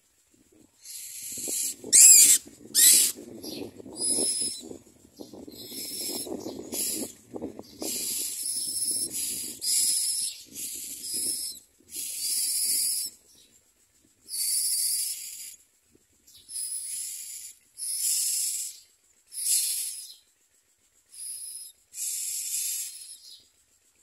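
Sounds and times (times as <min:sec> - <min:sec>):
nestlings hissing begging calls: 0:00.8 - 0:04.7, 0:05.4 - 0:13.2, 0:14.3 - 0:15.6, 0:16.3 - 0:20.2, 0:21.0 - 0:23.4.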